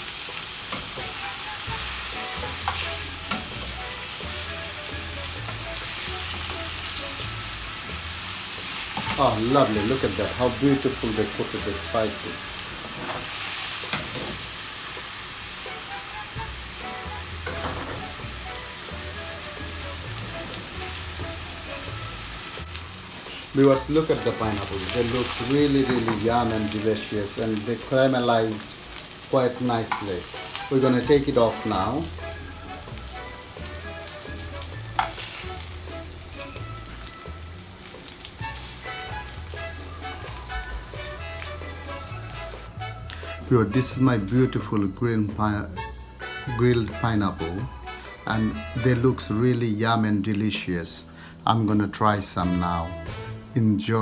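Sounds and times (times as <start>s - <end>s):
fruit sizzling in hot oil: 0.0s - 43.4s.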